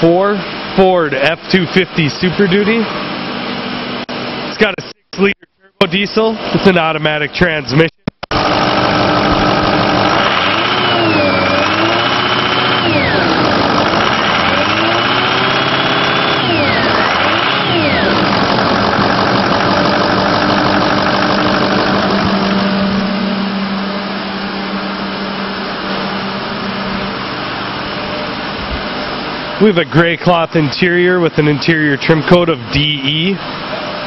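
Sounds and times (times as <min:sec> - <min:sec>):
turbo whine: 0:00.0 - 0:34.0
diesel engine revving and idling: 0:06.0 - 0:34.0.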